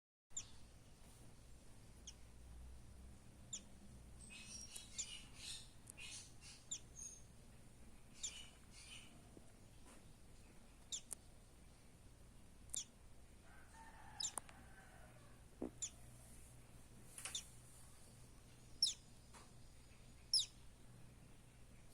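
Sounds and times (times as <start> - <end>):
bird chicks peeping: 0.3 - 0.7, 2.0 - 2.4, 3.4 - 11.9, 12.6 - 14.9, 15.6 - 21.9.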